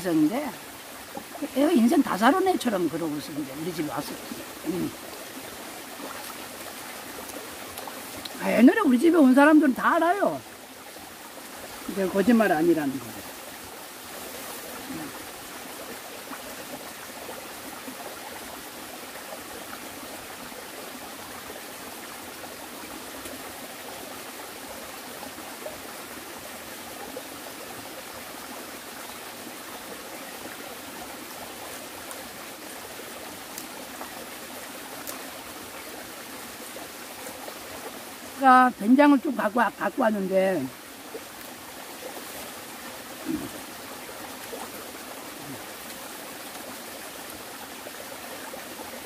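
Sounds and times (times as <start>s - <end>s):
stream running over rocks: 0.0s - 49.0s.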